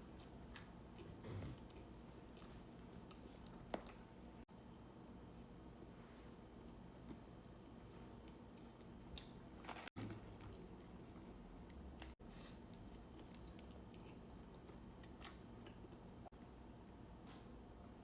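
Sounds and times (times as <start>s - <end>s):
faint chewing: 0.1s - 5.5s, 7.0s - 16.1s.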